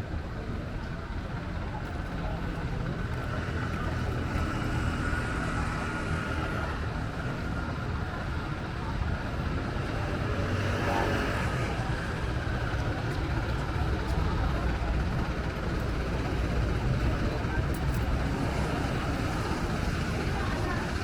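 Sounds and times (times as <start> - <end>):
faint voices: 0.0 - 21.0
road traffic: 0.0 - 21.0.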